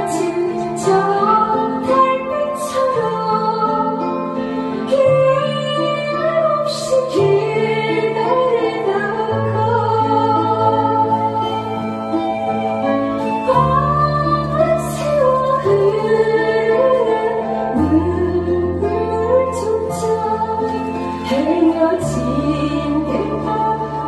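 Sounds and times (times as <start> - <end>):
instrumental accompaniment: 0.0 - 24.0
woman singing into a microphone: 0.0 - 24.0.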